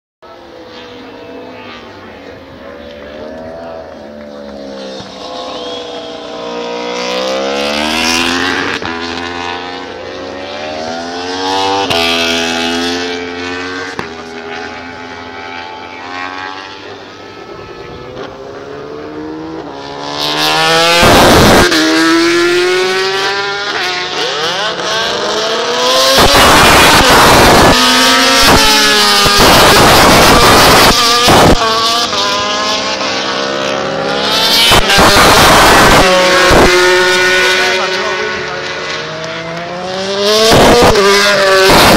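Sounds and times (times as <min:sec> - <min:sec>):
race motorcycles accelerating past: 0:00.3 - 0:41.9.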